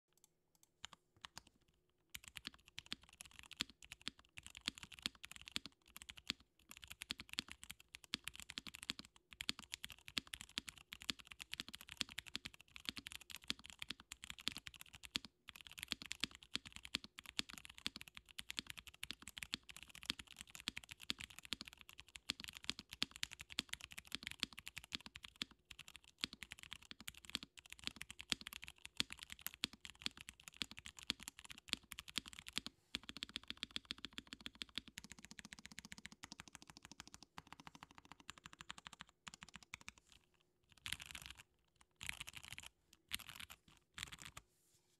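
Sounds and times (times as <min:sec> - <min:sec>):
mechanical keyboard typing: 0:02.1 - 0:40.0, 0:40.7 - 0:44.4.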